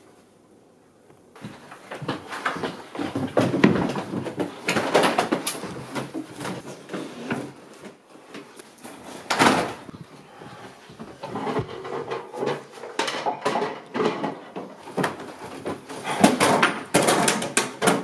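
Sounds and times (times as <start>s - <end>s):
drawers and cupboard doors opening: 1.4s - 18.0s
knocks clatters and rustles: 1.4s - 18.0s.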